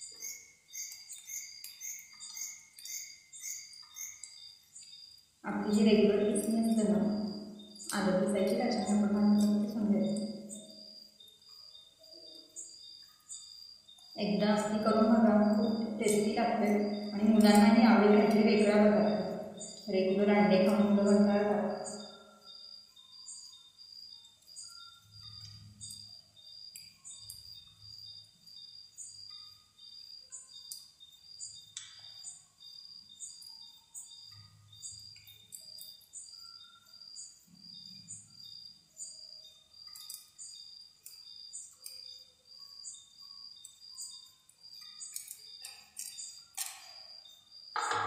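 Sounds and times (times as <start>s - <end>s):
faint high-pitched pulsing chirping: 0.0s - 48.0s.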